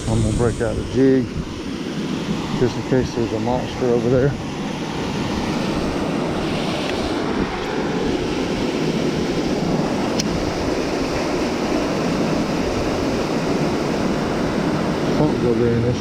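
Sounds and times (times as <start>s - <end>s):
strong wind on microphone: 0.0s - 16.0s.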